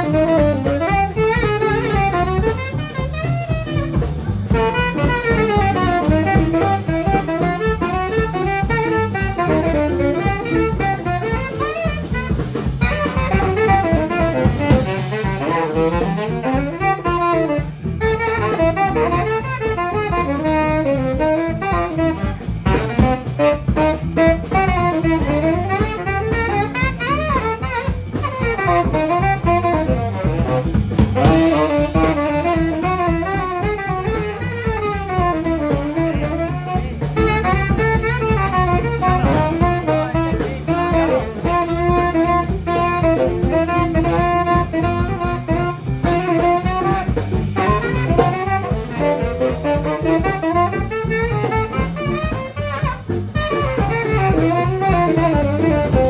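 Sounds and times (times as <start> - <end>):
drum kit with cymbals: 0.0 - 56.0
electric guitar: 0.0 - 56.0
saxophone solo: 0.0 - 56.0
upright bass: 0.0 - 56.0.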